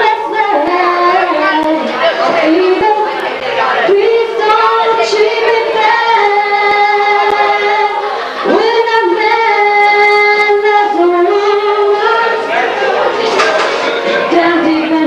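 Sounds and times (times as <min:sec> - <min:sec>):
high singing voice: 0:00.0 - 0:15.0
music: 0:00.0 - 0:15.0.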